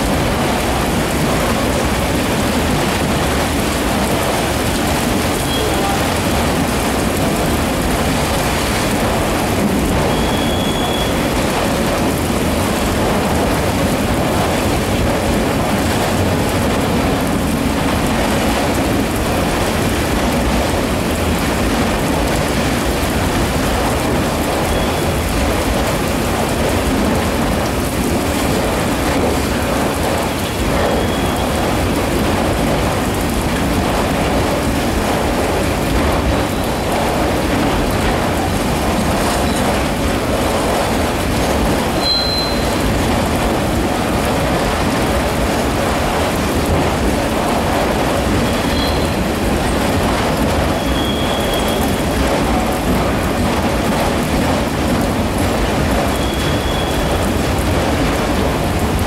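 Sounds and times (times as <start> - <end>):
freight train rumbling past: 0.0 - 59.0
heavy rain: 0.0 - 59.0.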